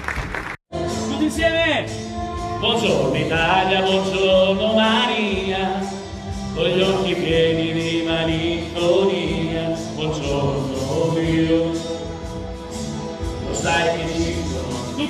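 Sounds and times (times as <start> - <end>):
backing music from loudspeaker: 0.7 - 15.0
man singing: 0.8 - 15.0.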